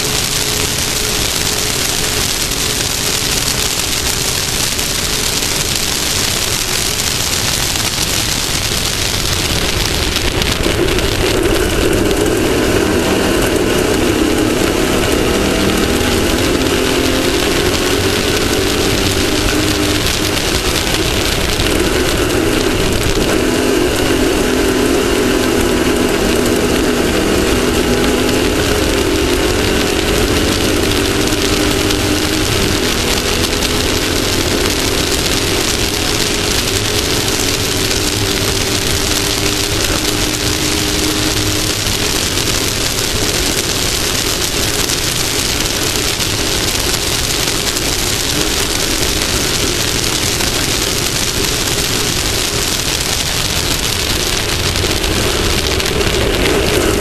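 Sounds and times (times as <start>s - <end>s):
race vehicle engine running hard: 0.0s - 57.0s
steady rushing noise: 0.0s - 57.0s.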